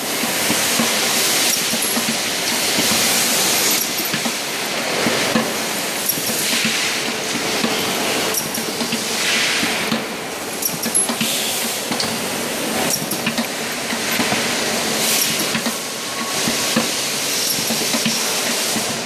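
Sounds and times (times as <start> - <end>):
riveting machine hissing: 0.0 - 19.0.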